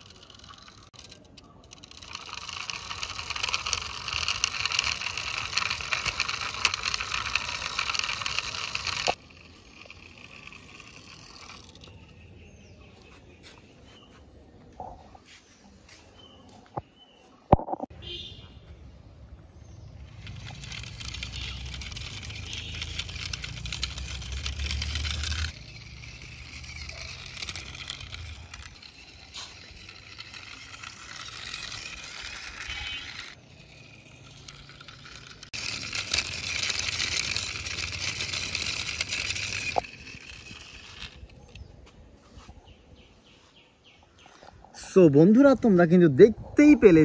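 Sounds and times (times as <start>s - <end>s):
toy truck wheels rolling on concrete: 0.0s - 15.1s, 18.8s - 47.0s.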